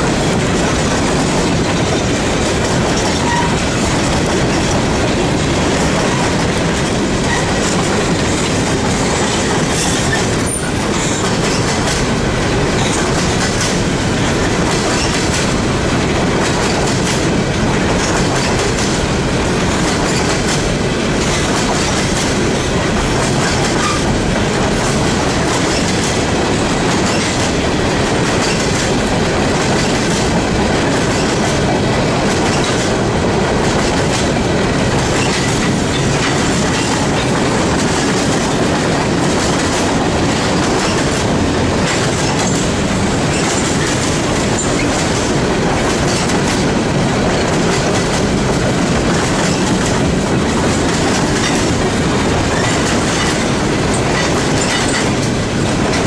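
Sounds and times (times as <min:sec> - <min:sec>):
freight train rumbling past: 0:00.0 - 0:56.0
wheels clickety-clack on track: 0:00.0 - 0:56.0.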